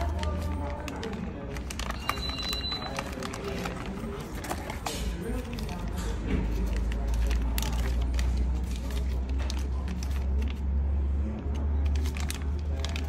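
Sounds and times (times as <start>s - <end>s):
plastic bag crinkling: 0.0s - 10.7s, 11.5s - 13.0s.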